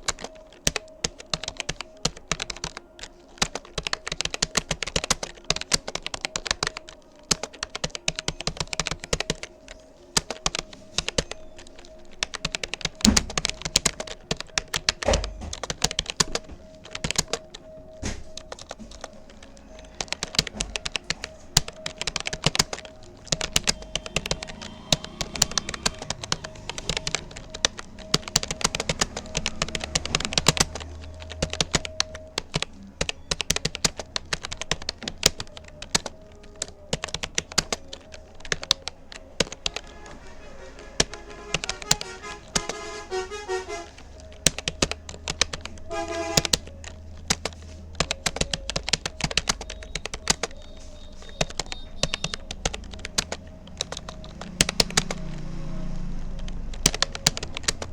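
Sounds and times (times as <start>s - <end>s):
faint steady tone: 0.0s - 57.9s
keyboard typing clicks: 0.0s - 57.9s.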